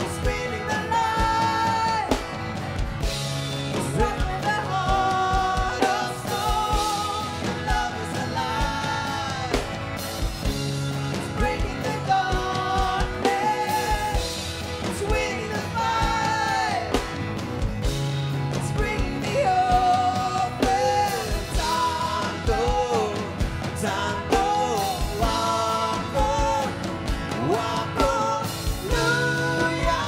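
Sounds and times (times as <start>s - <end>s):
person singing: 0.0s - 2.8s, 3.6s - 17.2s, 18.4s - 30.0s
drum beat: 0.0s - 30.0s.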